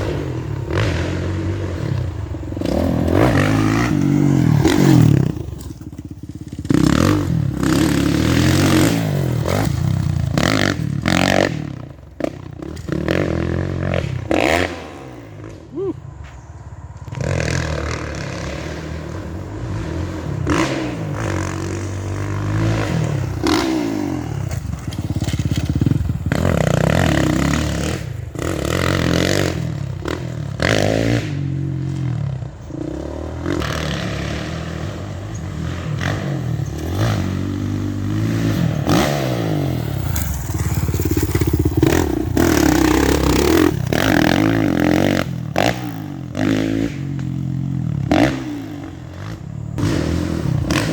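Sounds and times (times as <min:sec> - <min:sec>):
dirt bike engine revving: 0:00.0 - 0:15.9, 0:17.0 - 0:50.9.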